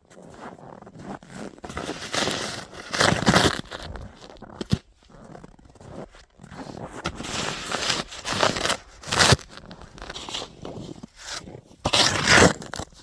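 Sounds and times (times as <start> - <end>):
snow shovel scraping snow: 0.2 - 13.0.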